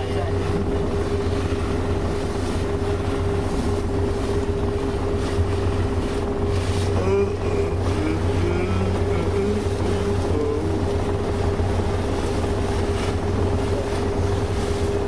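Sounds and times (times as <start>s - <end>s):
boat engine droning: 0.0s - 15.0s
constant hum: 0.0s - 15.0s.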